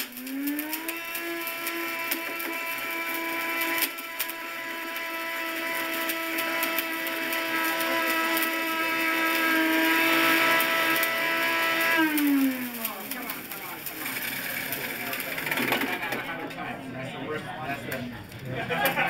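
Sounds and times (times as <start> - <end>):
blender motor whining: 0.0 - 16.5.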